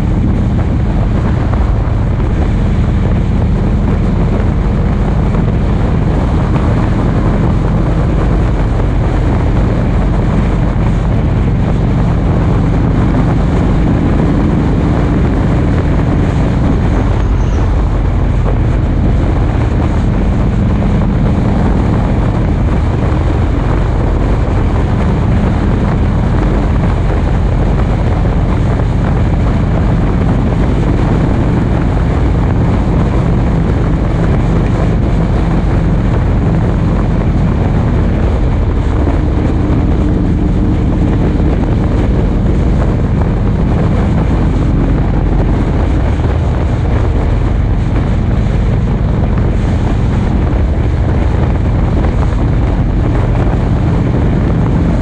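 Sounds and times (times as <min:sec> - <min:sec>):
vehicle engine running: 0:00.0 - 0:55.0
wind rushing over microphone: 0:00.0 - 0:55.0.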